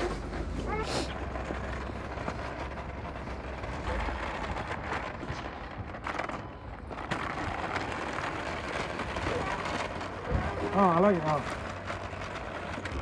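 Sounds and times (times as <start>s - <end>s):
low rumble of wind or traffic: 0.0s - 13.0s
street noise: 0.0s - 13.0s
toy trolley rattling over pavement: 0.0s - 13.0s.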